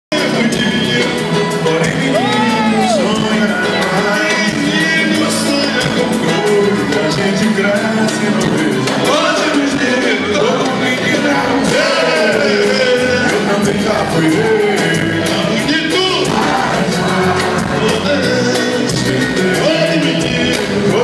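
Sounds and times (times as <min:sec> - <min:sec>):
men singing into microphones: 0:00.1 - 0:21.0.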